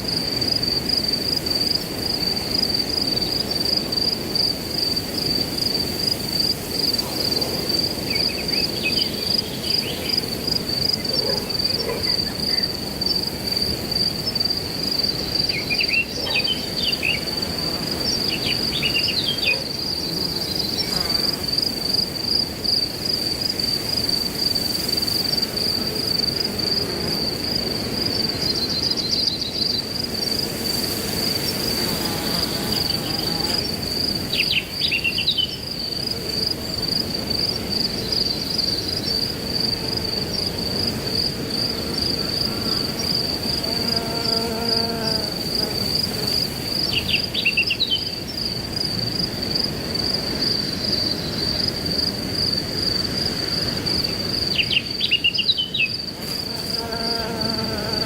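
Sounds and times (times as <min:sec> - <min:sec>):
crickets chirping: 0:00.0 - 0:58.0
wind through grass: 0:00.0 - 0:58.0.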